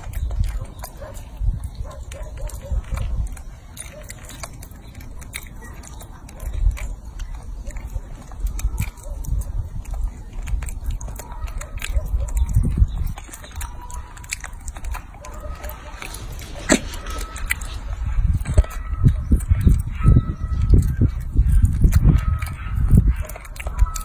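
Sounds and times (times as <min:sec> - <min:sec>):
monkey chewing with mouth clicks: 0:00.0 - 0:24.0.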